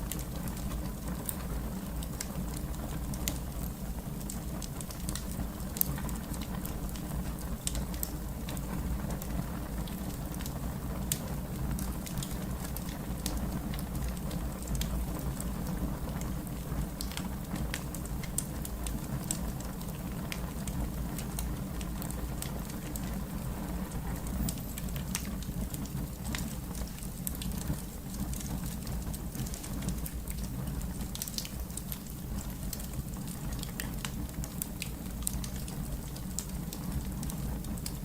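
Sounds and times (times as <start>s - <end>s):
fire crackling: 0.0s - 38.0s
low rumble of burning: 0.0s - 38.0s.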